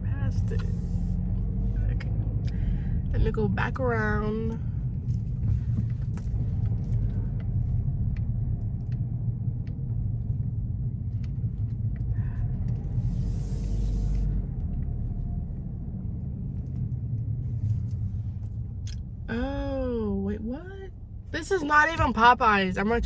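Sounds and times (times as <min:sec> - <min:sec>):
car driving rumble inside cabin: 0:00.0 - 0:23.0.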